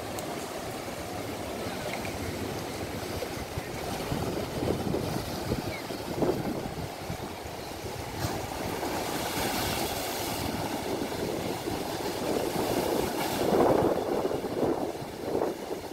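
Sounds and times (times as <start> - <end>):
wind buffeting microphone: 2.7 - 15.9.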